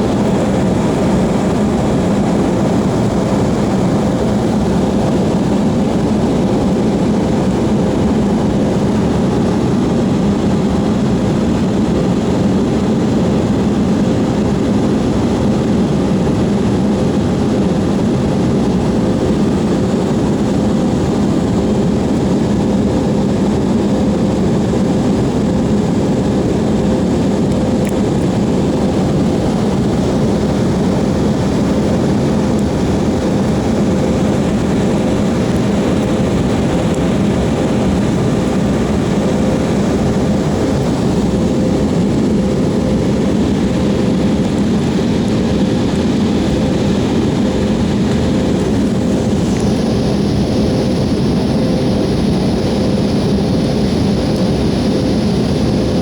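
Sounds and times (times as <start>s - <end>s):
drone of engines and airflow: 0.0s - 56.0s.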